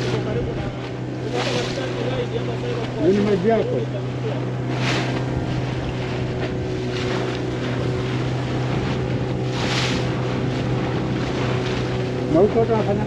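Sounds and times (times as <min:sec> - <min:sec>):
motorboat engine running: 0:00.0 - 0:13.0
water and wind rushing: 0:00.0 - 0:13.0.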